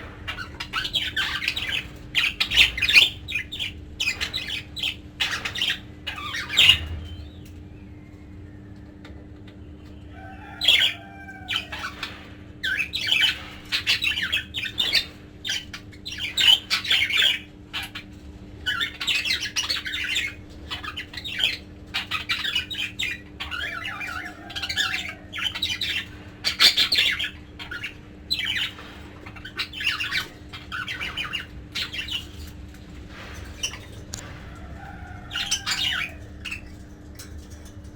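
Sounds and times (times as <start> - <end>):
budgerigars chattering and squawking: 0.0 - 7.6, 9.7 - 37.9.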